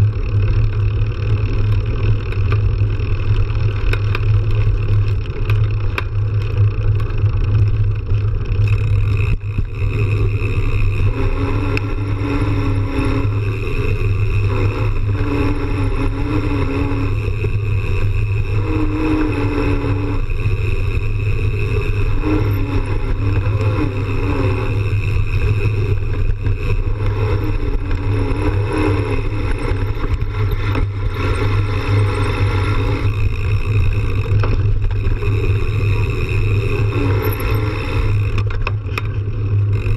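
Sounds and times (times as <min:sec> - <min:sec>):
bike tyres rumbling on dirt: 0:00.0 - 0:39.9.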